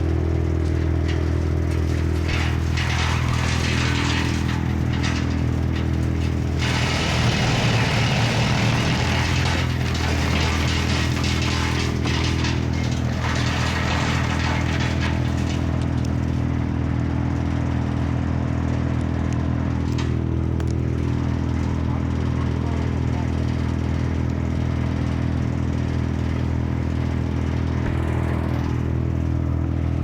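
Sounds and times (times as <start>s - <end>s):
small engine running: 0.0s - 16.4s, 20.6s - 29.8s.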